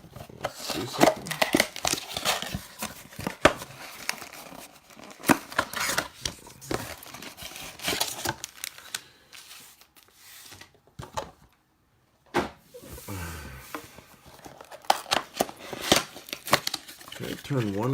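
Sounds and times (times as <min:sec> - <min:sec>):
crinkling and rustling: 0:00.0 - 0:11.6, 0:12.7 - 0:17.9.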